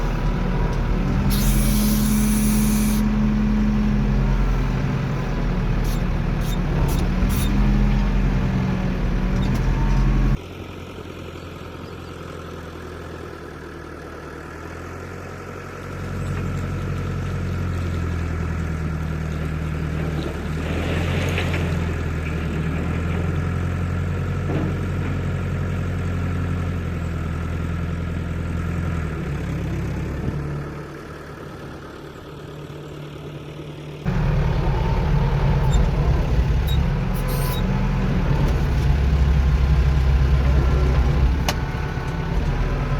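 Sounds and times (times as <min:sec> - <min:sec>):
heavy machinery diesel engine: 0:00.0 - 0:42.9.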